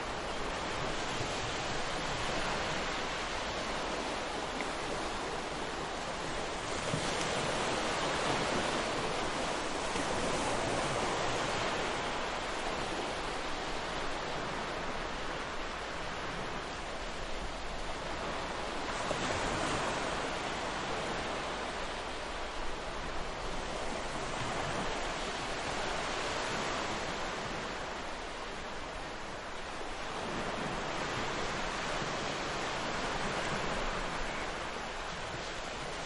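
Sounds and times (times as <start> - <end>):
ocean surf breaking on beach: 0.0 - 36.0.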